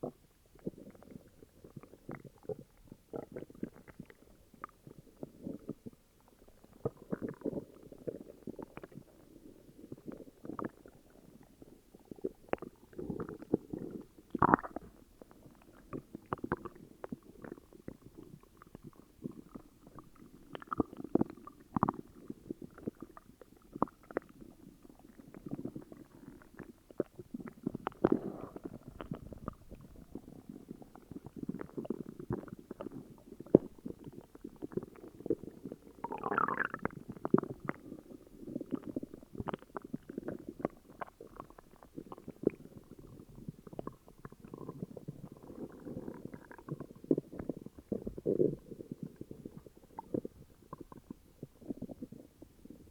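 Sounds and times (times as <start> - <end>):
stomach growling and gurgling: 0.0 - 52.9.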